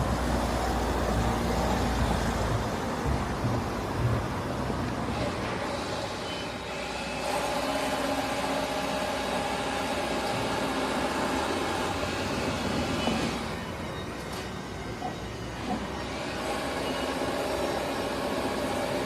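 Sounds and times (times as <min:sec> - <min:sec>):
large vehicle humming: 0:00.0 - 0:19.0
street traffic: 0:00.0 - 0:19.0.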